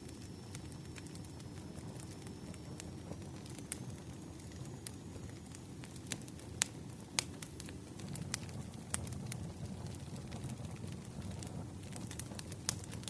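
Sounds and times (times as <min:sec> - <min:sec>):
fire popping: 0:00.0 - 0:13.0
firewood crackling: 0:00.0 - 0:13.0.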